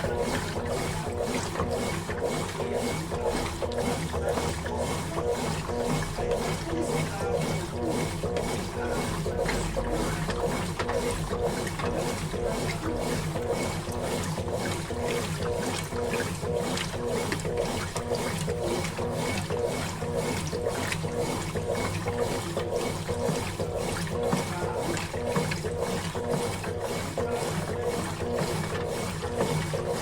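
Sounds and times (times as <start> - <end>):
washing machine churning in water: 0.0 - 30.0.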